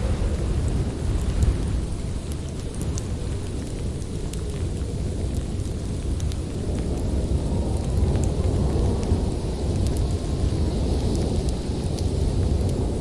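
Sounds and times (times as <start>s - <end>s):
strong storm wind blowing: 0.0s - 13.0s
wood fire crackling: 0.0s - 13.0s.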